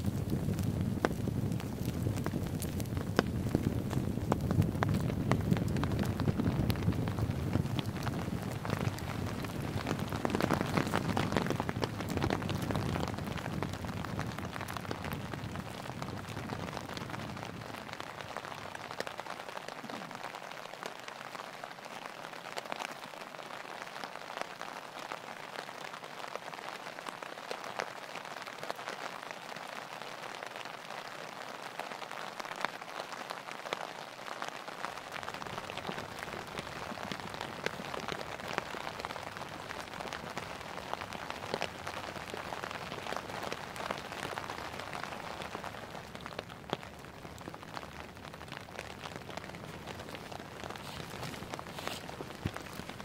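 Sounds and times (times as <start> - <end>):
raindrops tapping on a tarp: 0.0 - 53.0
steady rain falling: 0.0 - 53.0.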